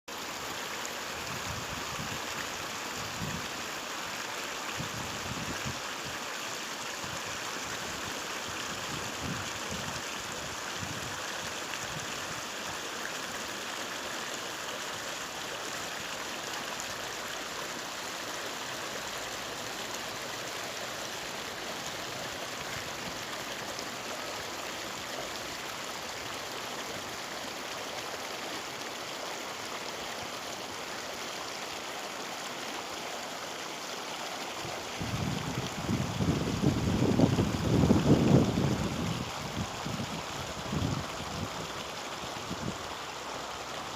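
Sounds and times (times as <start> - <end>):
stream rushing over rocks: 0.1 - 43.9.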